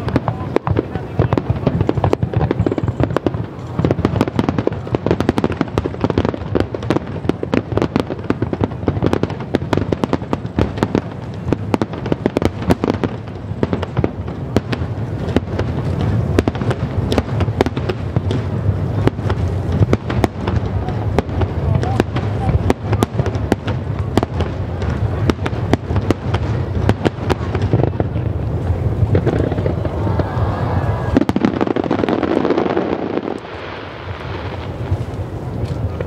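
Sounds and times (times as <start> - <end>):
fireworks crackling: 0.0 - 36.0.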